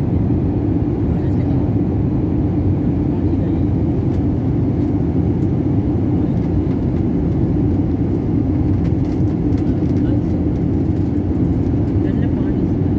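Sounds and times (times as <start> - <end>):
airliner cabin rumble: 0.0 - 12.9.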